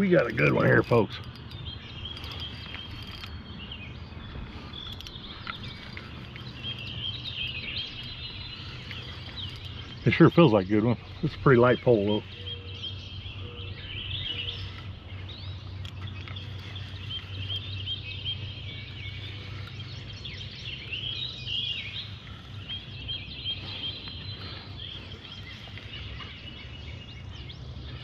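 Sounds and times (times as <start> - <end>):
birds chirping and singing: 0.0 - 28.0
steady low hum: 0.0 - 28.0.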